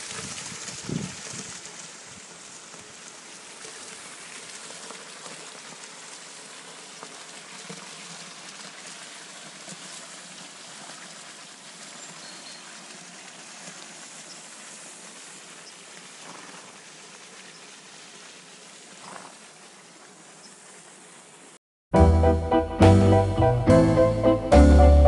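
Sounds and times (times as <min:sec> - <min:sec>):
water splashing into a pond: 0:00.0 - 0:21.6.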